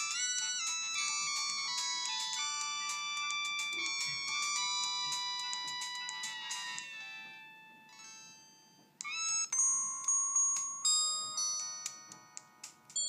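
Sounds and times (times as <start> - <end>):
phone ringtone melody: 0.0 - 13.0.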